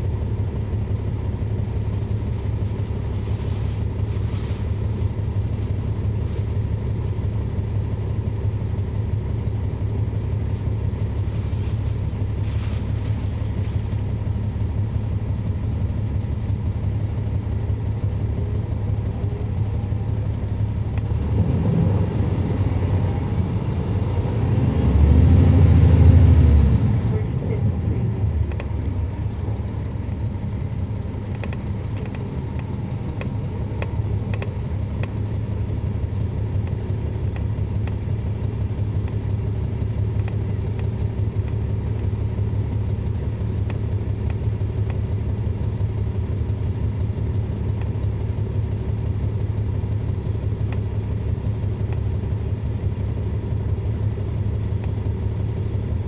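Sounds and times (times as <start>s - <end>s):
bus diesel engine droning: 0.0s - 56.0s
high engine whine: 0.0s - 56.0s.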